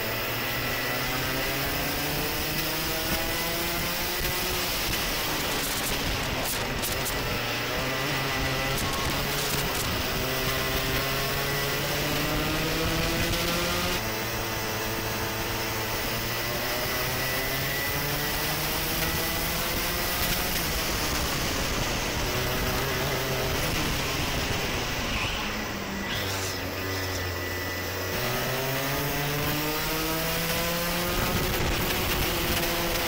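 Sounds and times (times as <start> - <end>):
racing kart engines revving: 0.0 - 33.0.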